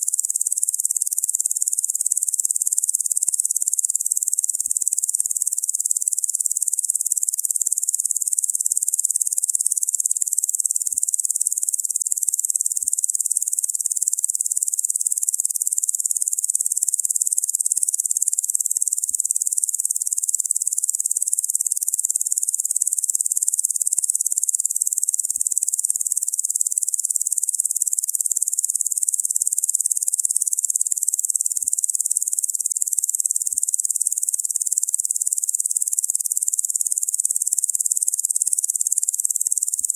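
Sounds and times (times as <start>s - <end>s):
insect chorus buzzing: 0.1s - 39.9s.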